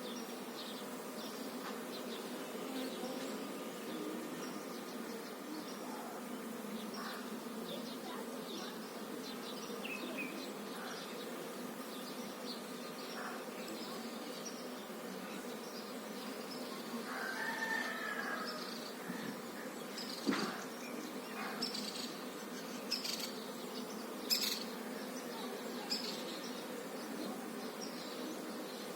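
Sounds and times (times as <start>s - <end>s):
bees humming: 0.0s - 28.9s.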